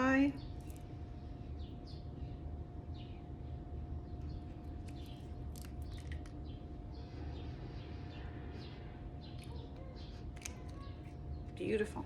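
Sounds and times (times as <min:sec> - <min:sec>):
low room hum: 0:00.0 - 0:12.0
small birds chirping: 0:00.0 - 0:12.0.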